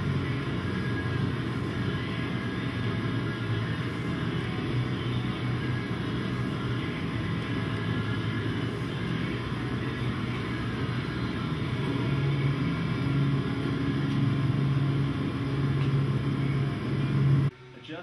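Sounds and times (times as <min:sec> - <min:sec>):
car engine humming: 0:00.0 - 0:17.5.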